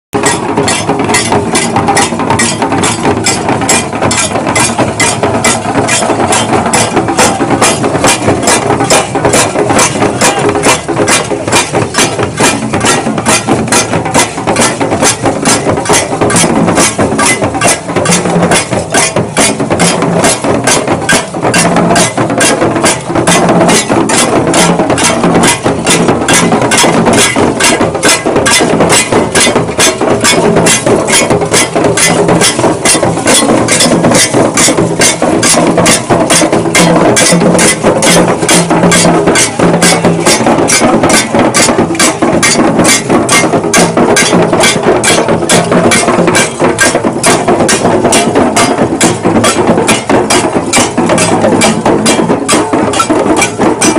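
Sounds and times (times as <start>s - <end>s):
low drum tones: 0.2s - 53.9s.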